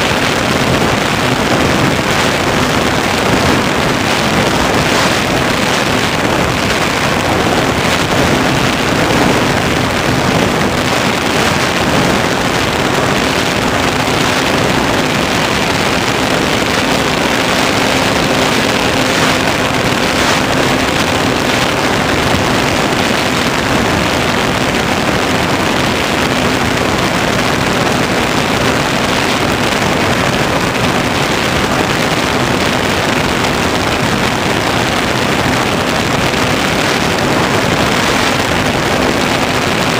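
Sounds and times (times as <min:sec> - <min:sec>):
propeller spinning: 0:00.0 - 0:39.9
rush of airflow over camera: 0:00.0 - 0:39.9.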